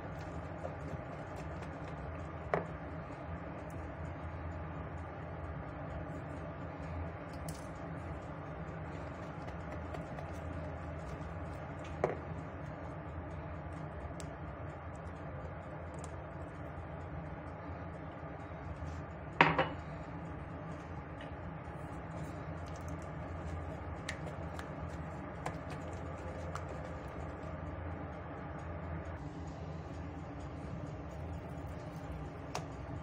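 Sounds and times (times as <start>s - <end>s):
low room hum: 0.0s - 33.0s.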